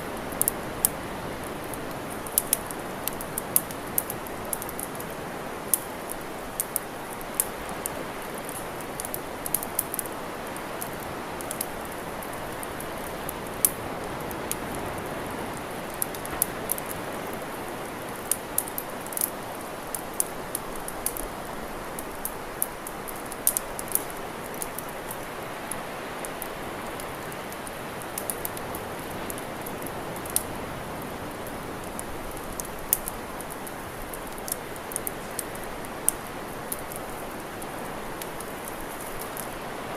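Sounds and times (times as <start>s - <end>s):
campfire crackling: 0.0s - 39.9s
steady rushing hiss: 0.0s - 39.9s.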